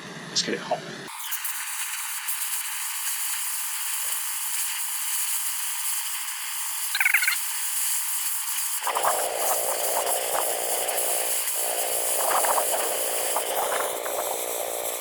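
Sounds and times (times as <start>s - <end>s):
gas torch hissing: 1.1s - 15.0s.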